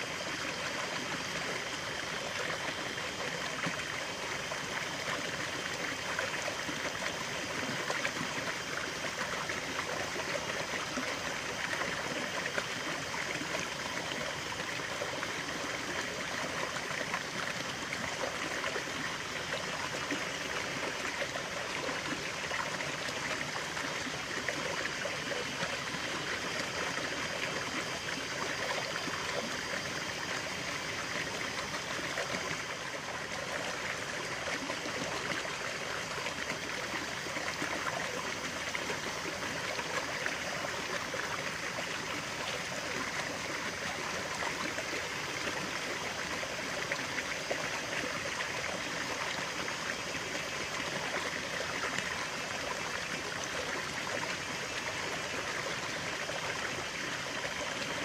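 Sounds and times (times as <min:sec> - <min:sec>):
stream water running and bubbling: 0:00.0 - 0:58.0.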